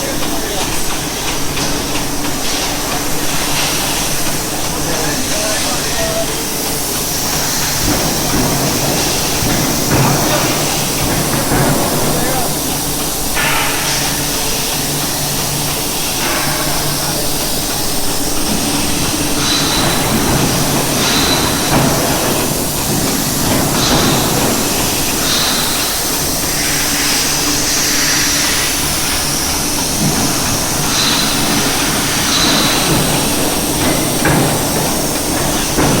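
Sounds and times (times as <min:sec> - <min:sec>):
forging press machine noise with hiss: 0:00.0 - 0:36.0.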